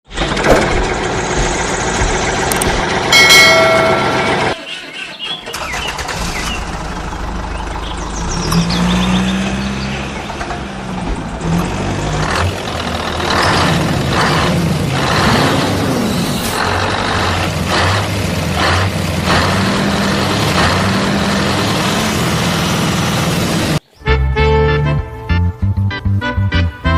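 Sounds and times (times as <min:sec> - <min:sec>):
vehicle engines running: 0:00.0 - 0:23.8.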